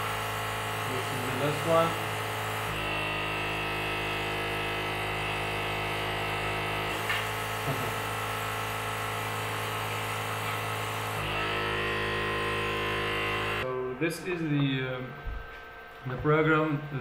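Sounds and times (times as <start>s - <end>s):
air pump and motors buzzing: 0.0s - 17.0s.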